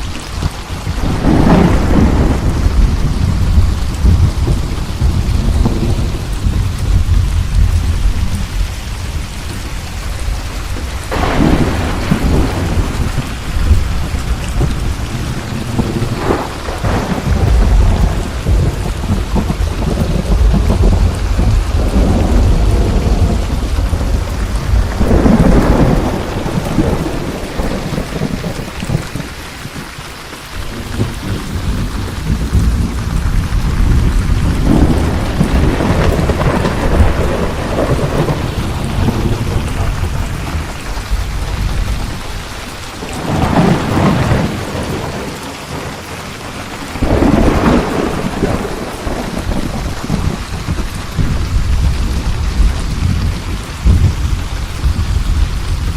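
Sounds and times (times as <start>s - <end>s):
rolling thunder: 0.0s - 29.8s, 30.5s - 55.9s
heavy rain: 0.0s - 55.9s.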